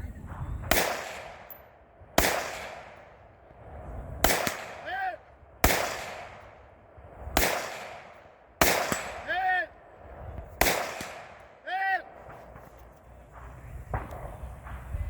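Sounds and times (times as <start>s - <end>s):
gunshots with long echo: 0.6s - 14.9s.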